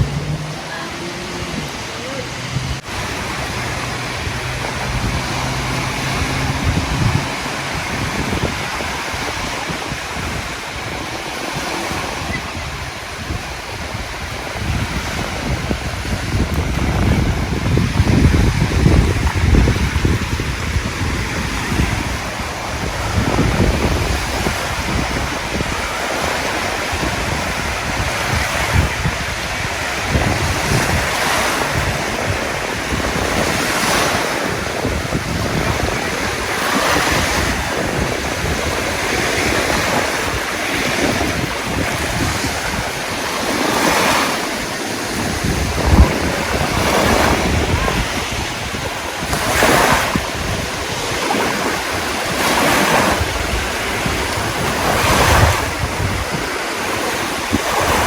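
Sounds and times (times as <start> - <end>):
sea waves washing in: 0.0 - 58.0
wind buffeting microphone: 0.0 - 58.0.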